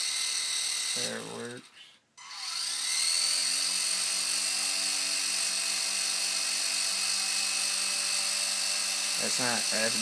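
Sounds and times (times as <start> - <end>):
electric motor and propeller whirring: 0.0 - 10.0.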